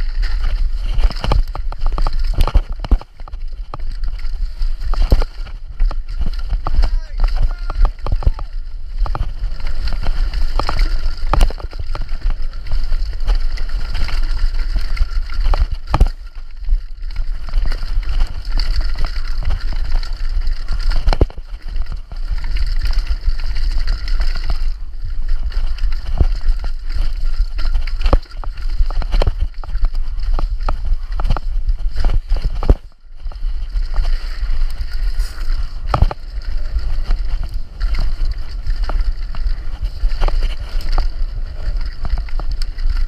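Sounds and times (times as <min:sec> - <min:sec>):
bike knocks and rattles: 0:00.0 - 0:43.0
tyres rolling over rock: 0:00.0 - 0:43.0.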